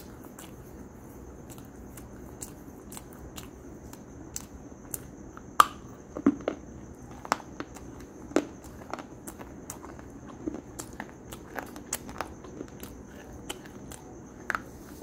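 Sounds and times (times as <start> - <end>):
crunching chews: 0.0 - 15.0.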